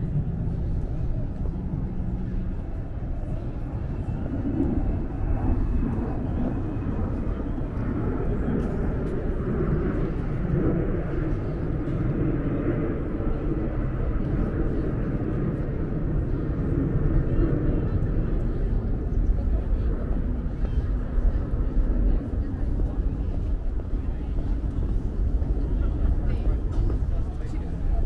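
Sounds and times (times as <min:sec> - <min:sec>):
indistinct chatter: 0:00.0 - 0:28.0
steady low rumble: 0:00.0 - 0:28.0.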